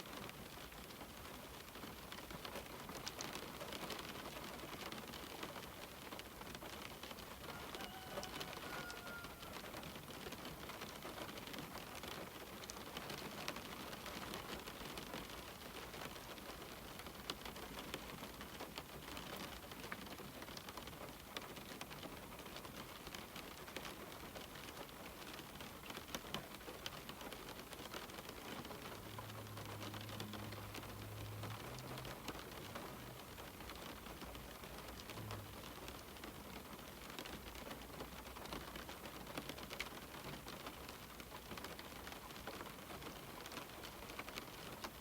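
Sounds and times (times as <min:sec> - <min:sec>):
rain on a window: 0:00.0 - 0:45.0.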